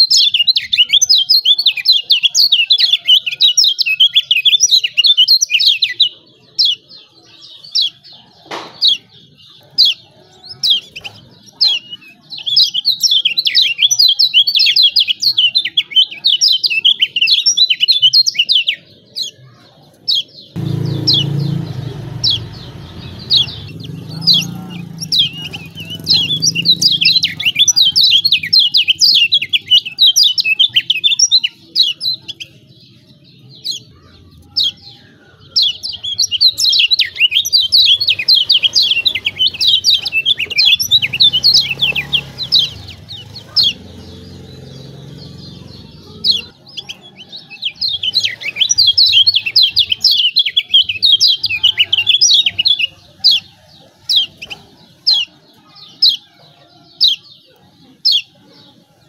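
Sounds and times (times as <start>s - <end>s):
bird high rapid chirps: 0.0s - 59.0s.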